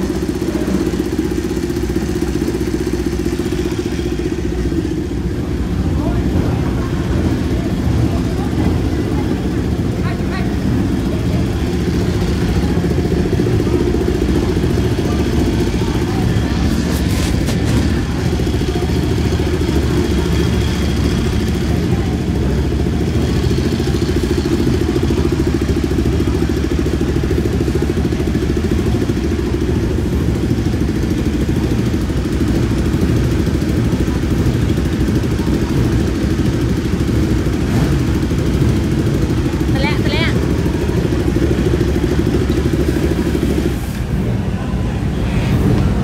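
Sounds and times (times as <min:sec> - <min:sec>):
motorcycle engines rumbling: 0:00.0 - 0:46.0.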